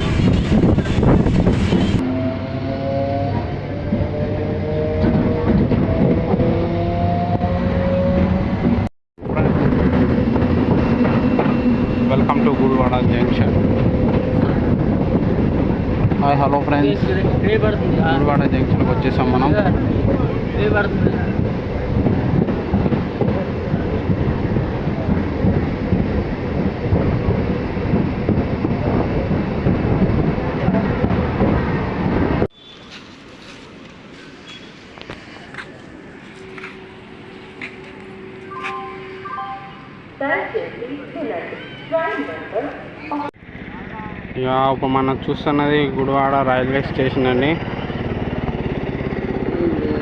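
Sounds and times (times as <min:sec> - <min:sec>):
electric train rumbling: 0:00.0 - 0:50.0.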